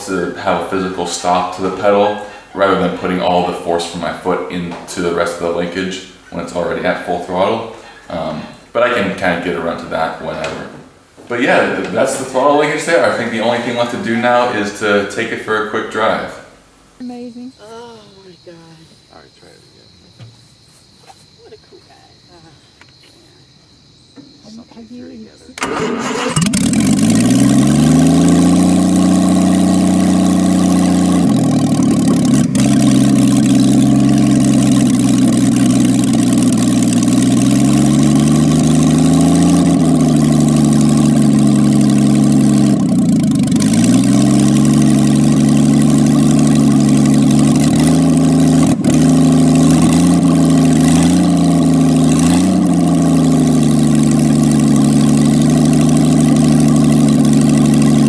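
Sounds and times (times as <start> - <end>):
car engine idling and revving: 0.0 - 17.4, 24.6 - 58.0
engine throttle blips: 0.0 - 20.4, 24.2 - 58.0.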